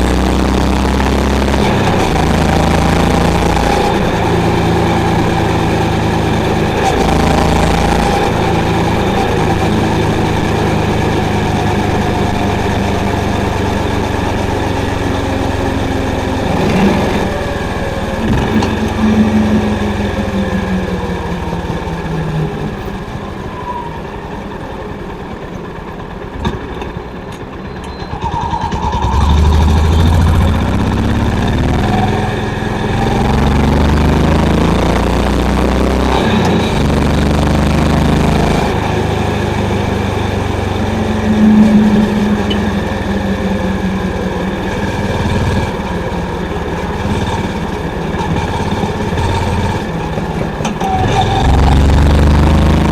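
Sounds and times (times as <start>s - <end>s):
motorcycle engine and exhaust: 0.0s - 52.9s.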